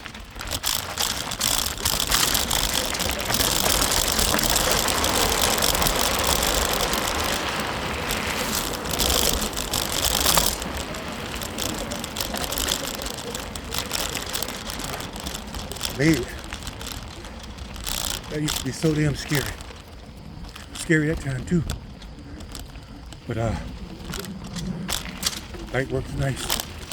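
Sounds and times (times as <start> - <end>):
bicycle tyres rattling on trail: 0.0 - 26.9.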